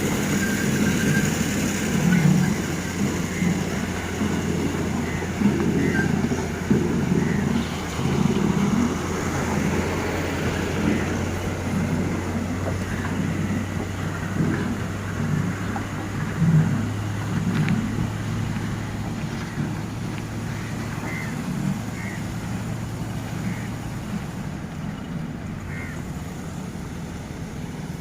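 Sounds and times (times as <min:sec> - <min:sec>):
road noise: 0:00.0 - 0:28.0
vehicle engine drone: 0:00.0 - 0:28.0.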